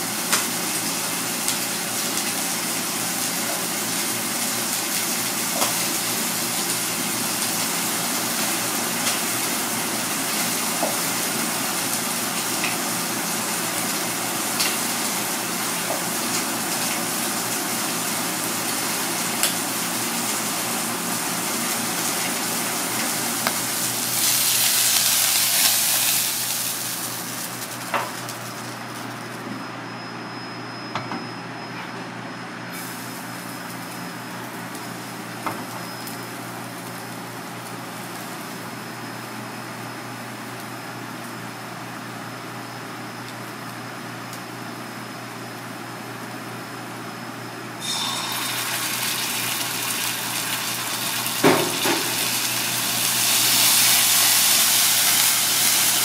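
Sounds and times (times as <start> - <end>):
food sizzling in oil: 0.0 - 29.4, 32.7 - 41.4, 47.8 - 56.0.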